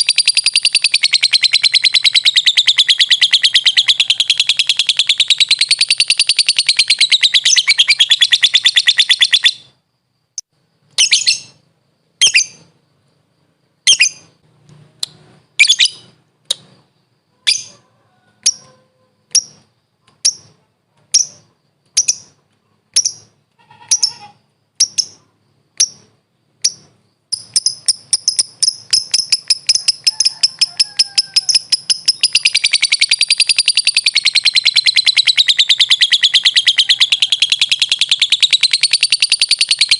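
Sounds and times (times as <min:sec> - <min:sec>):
lovebird chattering and chirping: 0:00.0 - 0:09.8, 0:10.4 - 0:11.6, 0:12.2 - 0:12.7, 0:13.8 - 0:14.4, 0:15.0 - 0:17.8, 0:18.4 - 0:39.9.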